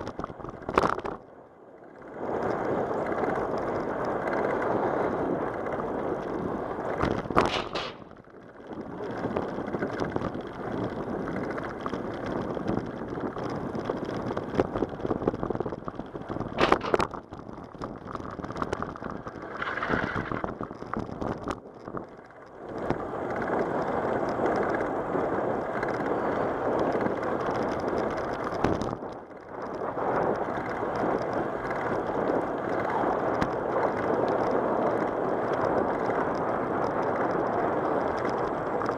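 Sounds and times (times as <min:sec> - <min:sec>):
bicycle tyres on trail: 0:00.0 - 0:38.9
wind rushing over microphone: 0:02.0 - 0:38.9.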